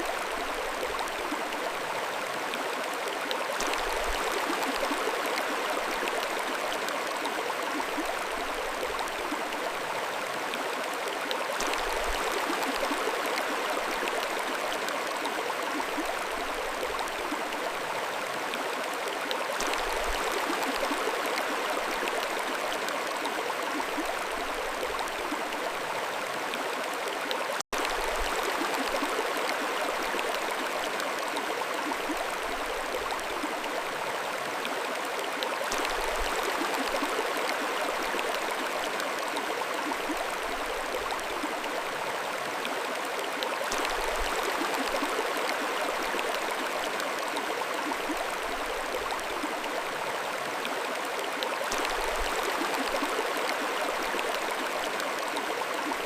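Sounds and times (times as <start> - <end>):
mountain stream flowing: 0.0 - 56.0.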